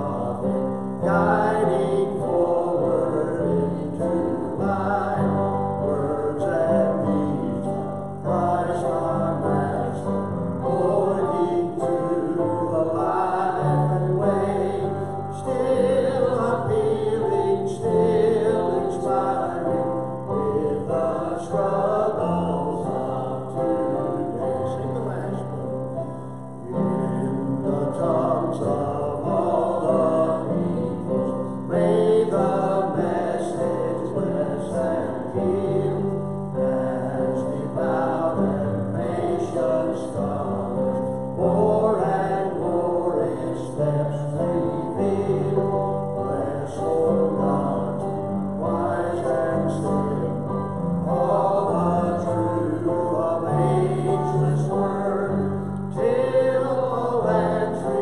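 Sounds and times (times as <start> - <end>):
man singing a hymn: 0.0 - 58.0
small choir singing: 0.0 - 58.0.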